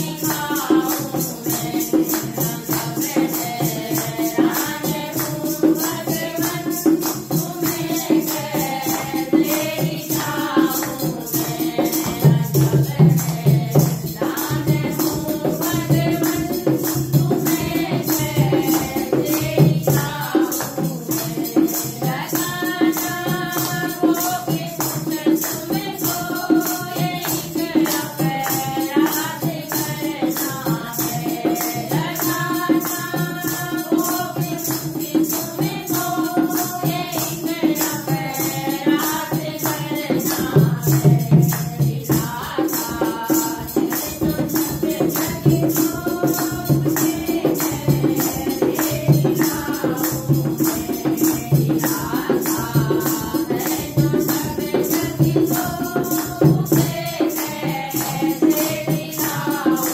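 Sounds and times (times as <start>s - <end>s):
hand drum: 0.0s - 59.9s
rhythmic hand-clapping: 0.0s - 59.9s
women singing in unison: 0.0s - 59.9s.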